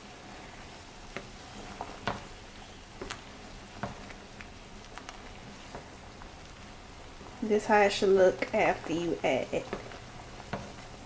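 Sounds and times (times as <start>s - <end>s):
pot bubbling: 0.0s - 11.0s.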